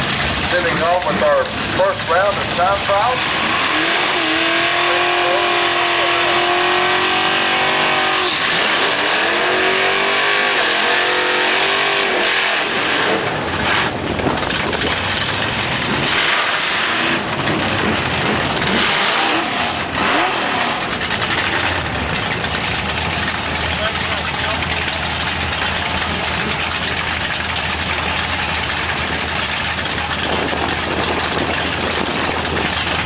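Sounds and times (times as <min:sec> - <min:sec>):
racing car engines at full throttle: 0:00.0 - 0:33.0.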